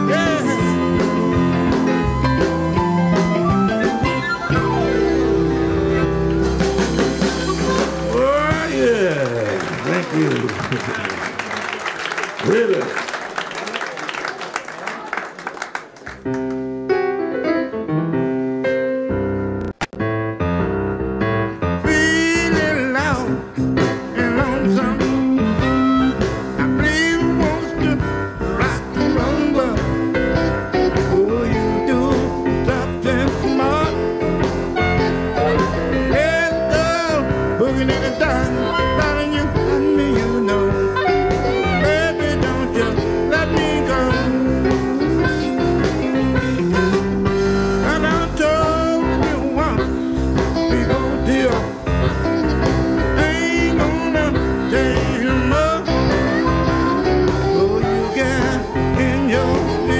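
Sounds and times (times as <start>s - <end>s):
piano: 0.0s - 12.8s, 15.6s - 59.9s
electric blues band playing: 0.0s - 13.1s, 15.8s - 59.9s.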